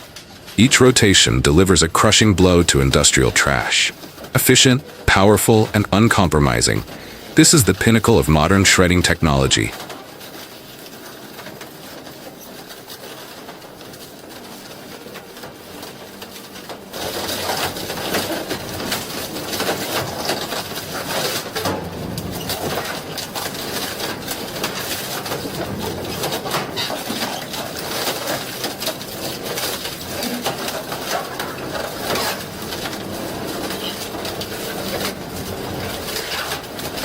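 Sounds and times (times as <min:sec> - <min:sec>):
wood shredder crushing wood: 0:00.0 - 0:37.0.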